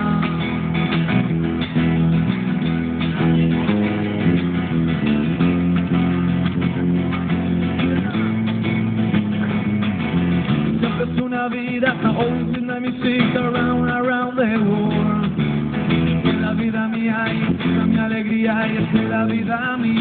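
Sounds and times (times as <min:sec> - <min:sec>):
acoustic guitar strumming: 0:00.0 - 0:20.0
amplified electric guitar: 0:00.0 - 0:20.0.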